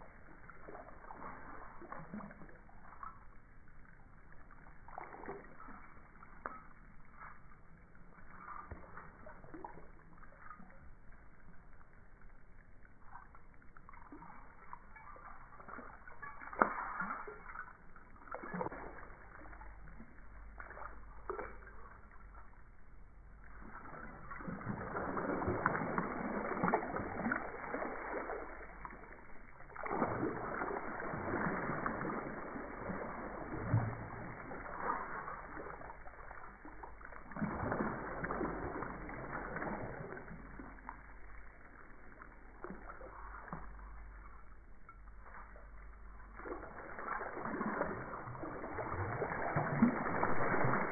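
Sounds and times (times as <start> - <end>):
water splashing and sloshing: 0.0 - 50.9.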